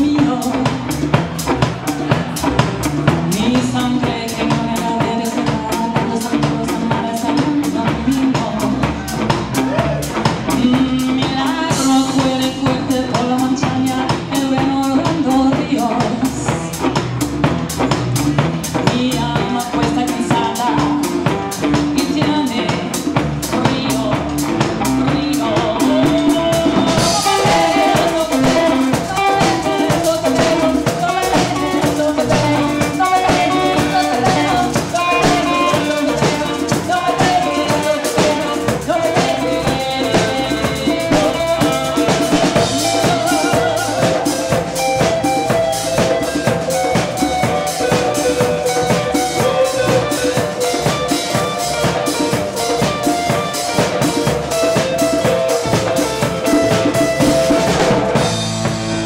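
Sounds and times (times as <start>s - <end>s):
drum kit: 0.0s - 59.0s
live rock band playing: 0.0s - 59.0s.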